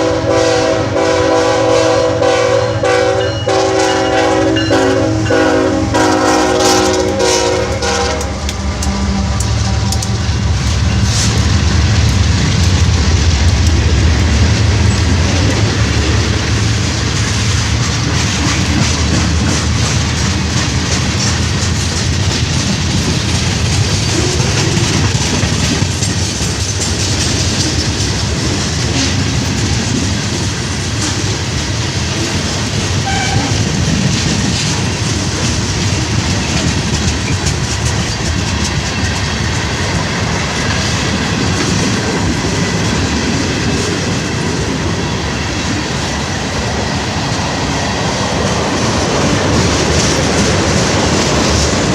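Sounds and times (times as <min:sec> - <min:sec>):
freight train wheels clacking: 0:00.0 - 0:51.9.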